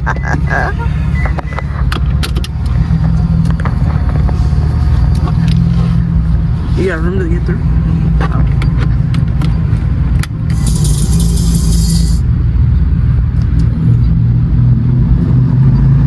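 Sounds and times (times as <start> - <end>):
car exhaust rumble: 0.0 - 16.0.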